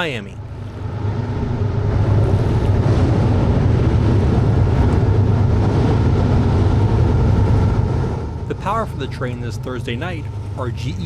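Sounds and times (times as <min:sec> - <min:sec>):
diesel locomotives passing: 0:00.0 - 0:11.0.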